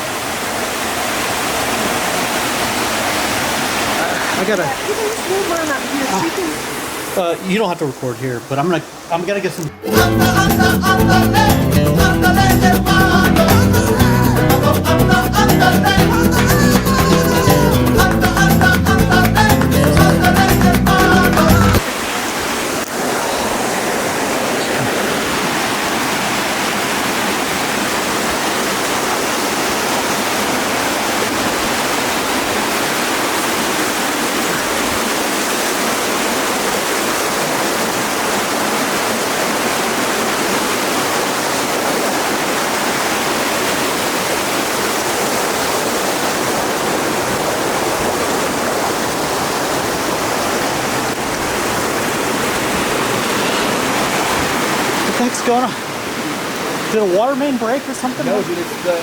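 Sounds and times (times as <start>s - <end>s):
floodwater flowing: 0.0s - 59.0s
heavy rain: 0.0s - 59.0s.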